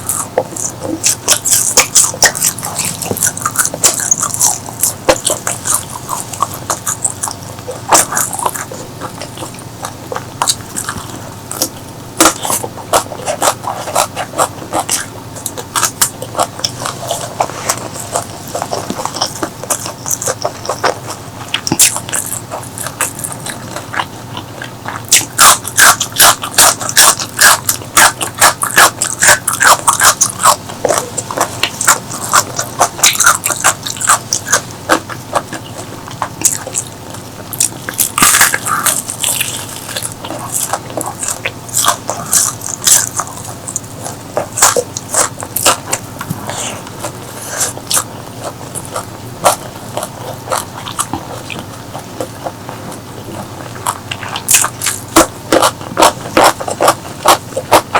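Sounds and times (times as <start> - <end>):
crunching bites and chewing: 0.0 - 57.9.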